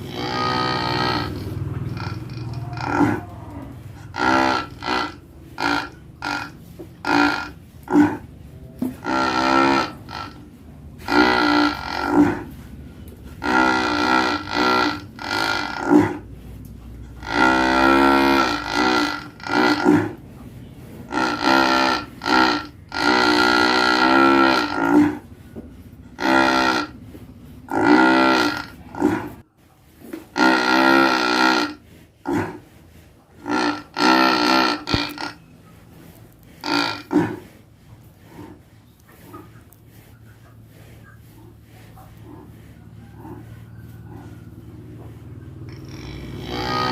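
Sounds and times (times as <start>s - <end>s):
cow snoring: 0.0s - 29.4s, 30.0s - 46.9s.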